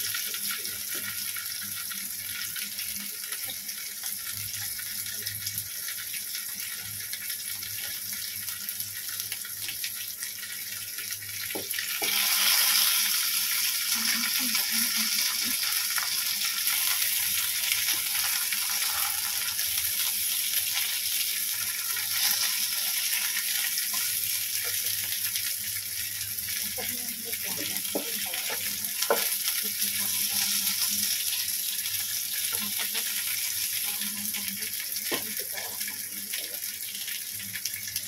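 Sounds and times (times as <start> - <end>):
chilies sizzling in hot oil: 0.0 - 38.0.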